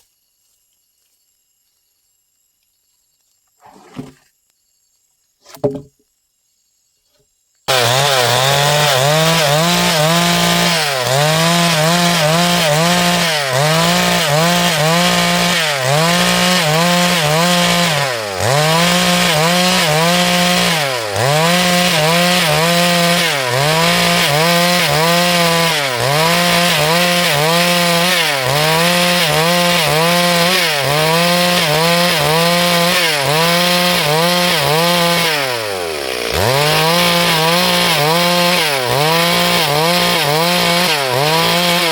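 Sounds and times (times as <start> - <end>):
chainsaw cutting log: 3.6 - 4.4, 5.4 - 6.0, 7.7 - 41.9.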